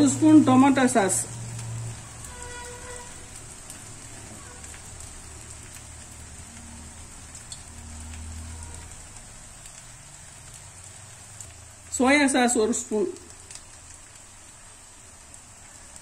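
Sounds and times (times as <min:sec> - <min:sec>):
food sizzling in frying pan: 0:00.0 - 0:16.0.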